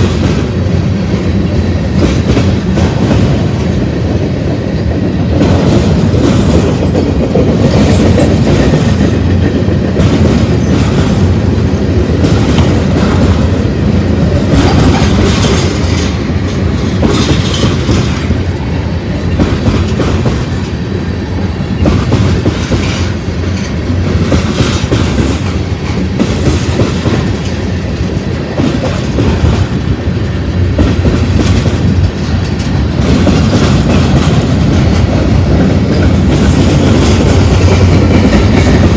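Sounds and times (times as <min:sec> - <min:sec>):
freight train cars rolling: 0:00.0 - 0:38.9
wheels clicking over rail joints: 0:02.0 - 0:38.9.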